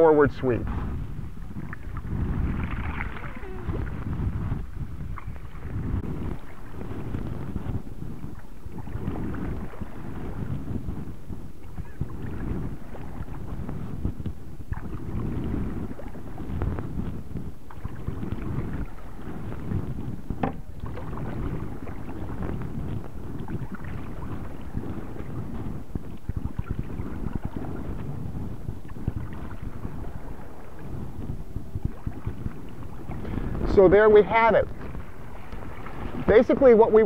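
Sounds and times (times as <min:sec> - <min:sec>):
paddle splashing water: 0:00.0 - 0:37.0
wind rumbling on microphone: 0:00.0 - 0:37.0.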